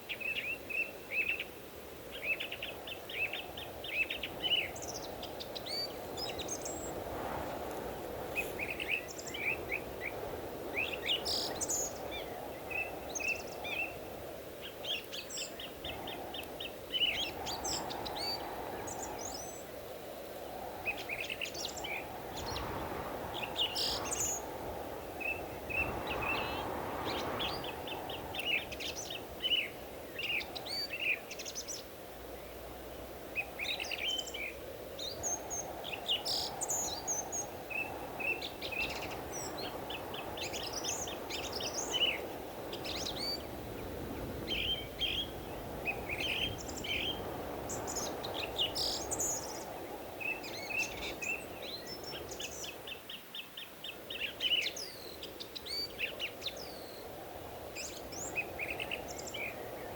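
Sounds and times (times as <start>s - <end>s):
forest birds chirping: 0.0s - 59.9s.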